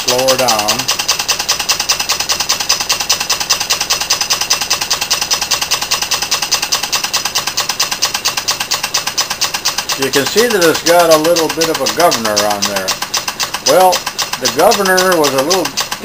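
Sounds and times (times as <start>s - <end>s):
model steam engine exhaust puffing: 0.0s - 16.0s.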